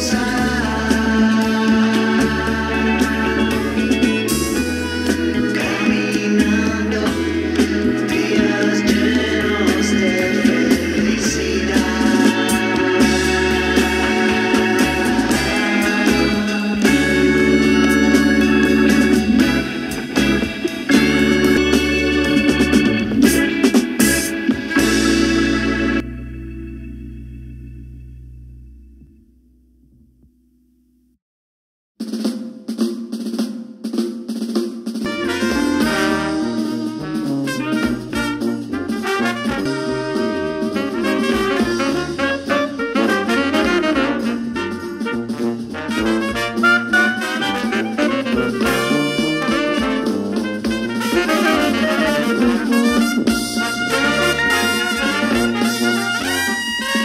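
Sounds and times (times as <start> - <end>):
brass: 0.0 - 26.9, 35.0 - 57.0
jazzy music with horns: 0.0 - 28.6, 34.8 - 57.0
drum kit: 0.0 - 29.3, 32.0 - 57.0
bass line: 0.0 - 31.2, 35.0 - 57.0.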